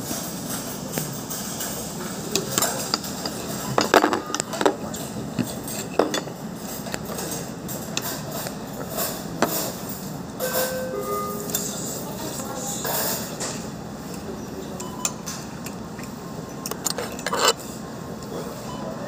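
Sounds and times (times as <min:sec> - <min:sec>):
steady background noise: 0:00.0 - 0:19.0
cutlery clinking on plates: 0:00.1 - 0:13.7, 0:14.8 - 0:17.6.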